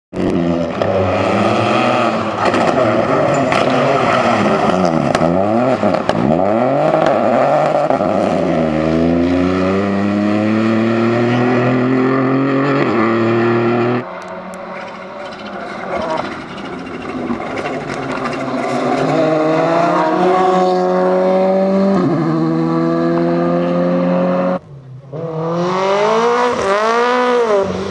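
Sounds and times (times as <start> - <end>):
rally car engines revving: 0.2 - 27.9.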